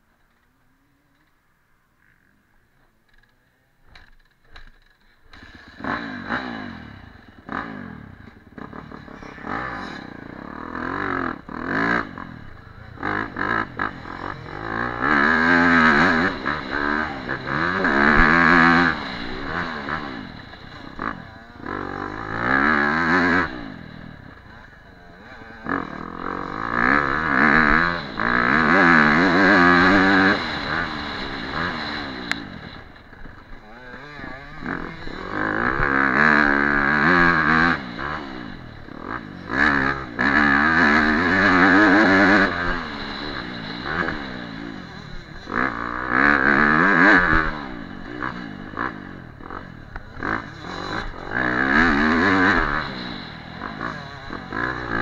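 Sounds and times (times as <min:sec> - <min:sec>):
dirt bike engine revving: 0:03.9 - 0:55.0.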